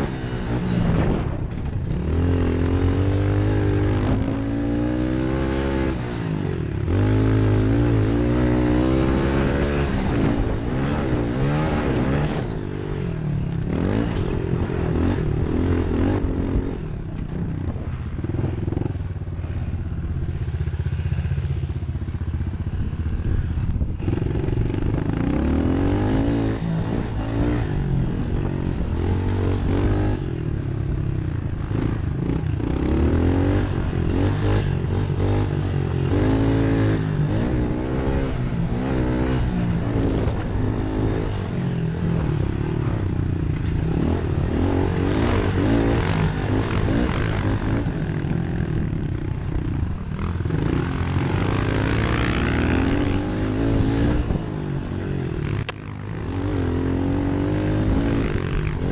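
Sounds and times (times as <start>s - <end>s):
motorbike engine revving: 0.0s - 58.9s.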